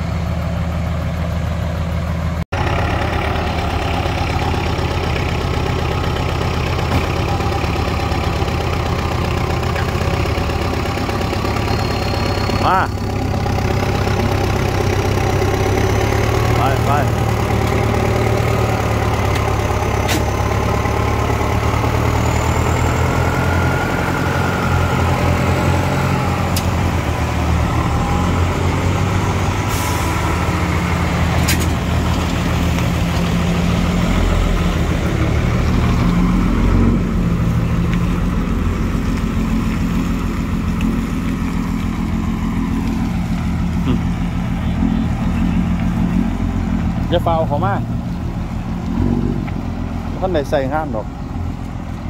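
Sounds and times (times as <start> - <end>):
diesel engines under load: 0.0 - 52.0.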